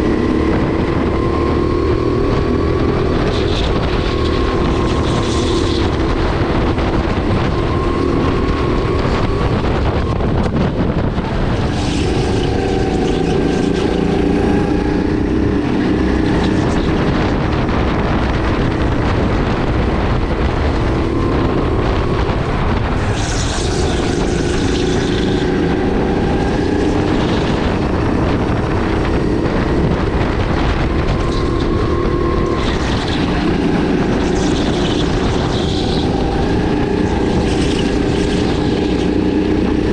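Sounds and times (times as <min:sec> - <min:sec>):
kart engine revving: 0:00.0 - 0:39.9
wind noise on microphone: 0:00.0 - 0:39.9.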